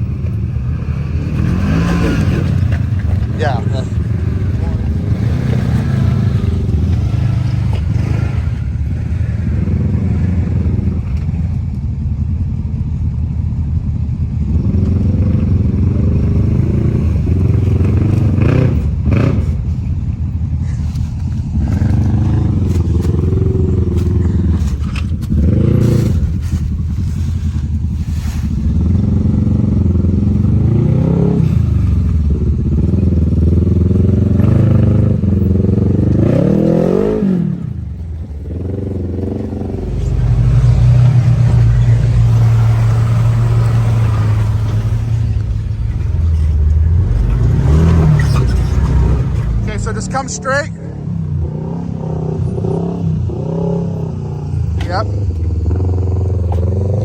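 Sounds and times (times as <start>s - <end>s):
utv engine revving: 0.0s - 57.0s.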